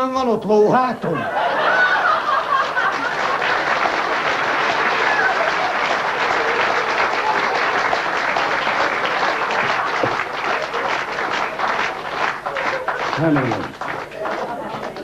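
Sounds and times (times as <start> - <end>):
audience applauding: 1.4 - 15.0.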